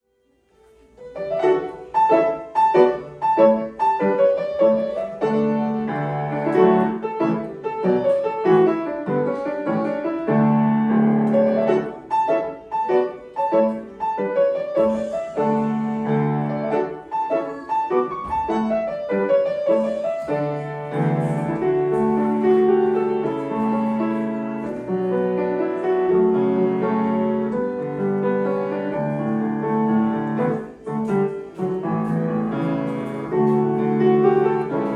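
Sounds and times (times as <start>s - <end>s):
lively solo piano: 1.0s - 34.9s.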